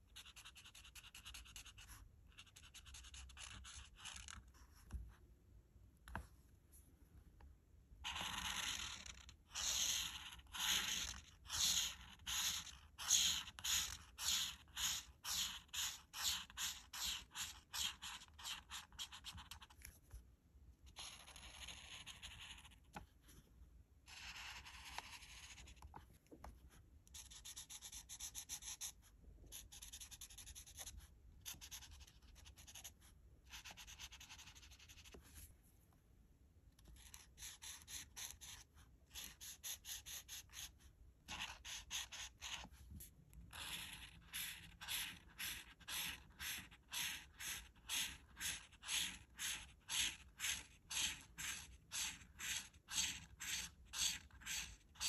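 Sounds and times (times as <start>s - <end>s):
marker rubbing on paper: 0.0s - 5.0s, 8.0s - 19.9s, 20.8s - 23.0s, 24.1s - 35.5s, 36.8s - 55.0s.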